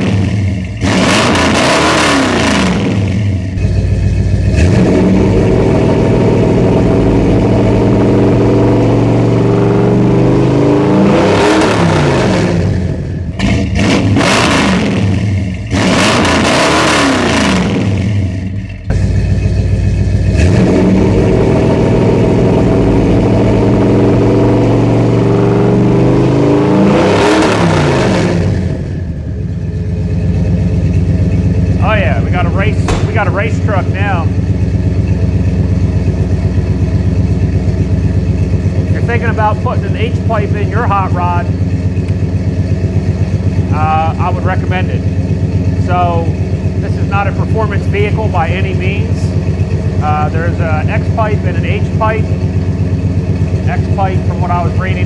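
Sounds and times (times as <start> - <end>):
vee eight engine idling and revving: 0.0 - 55.0.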